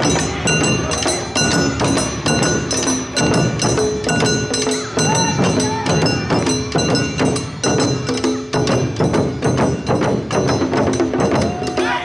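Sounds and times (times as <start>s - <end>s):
drums: 0.0s - 12.0s
hand gongs ringing: 0.0s - 12.0s.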